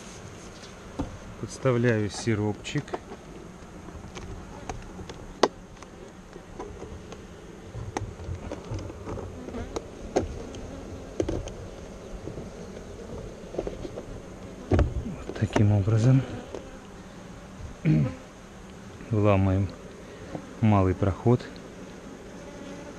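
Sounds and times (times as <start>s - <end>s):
honeybees buzzing: 0.0s - 22.9s.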